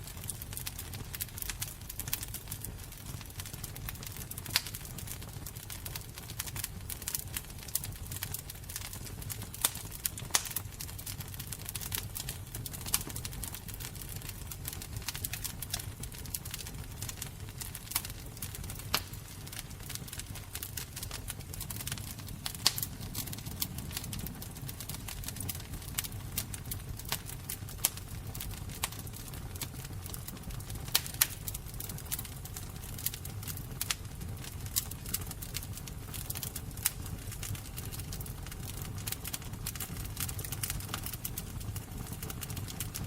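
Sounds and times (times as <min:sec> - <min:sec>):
low rumble of flames: 0:00.0 - 0:43.0
sharp loud snaps of fire: 0:00.0 - 0:43.0
wood fire crackling and popping: 0:00.0 - 0:43.0.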